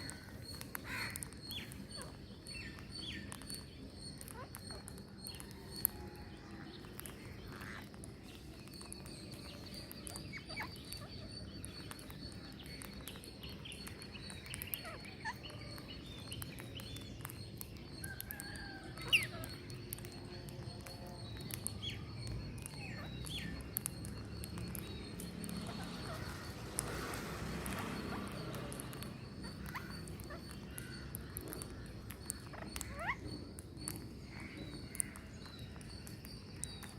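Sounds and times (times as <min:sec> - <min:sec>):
birds chirping and squawking: 0:00.0 - 0:36.9.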